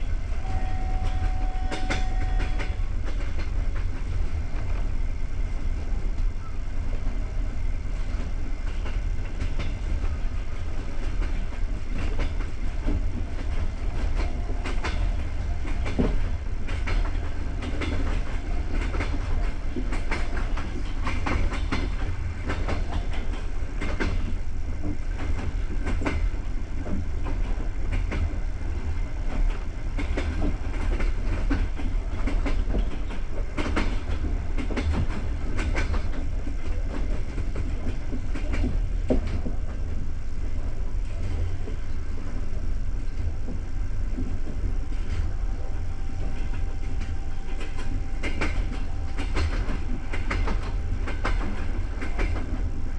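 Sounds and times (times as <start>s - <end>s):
train coach rumbling: 0.0s - 52.9s
wheels clacking over rail joints: 8.2s - 52.9s.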